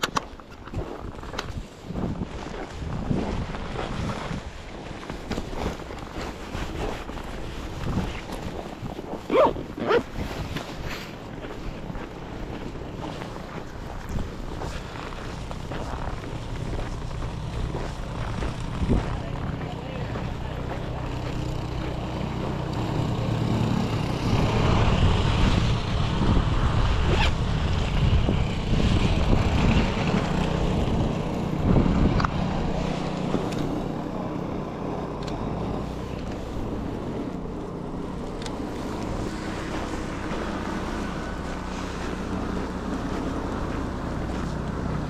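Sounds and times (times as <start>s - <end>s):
vehicle engine hum: 0.0s - 45.0s
rushing wind noise: 0.6s - 19.6s, 21.4s - 45.0s.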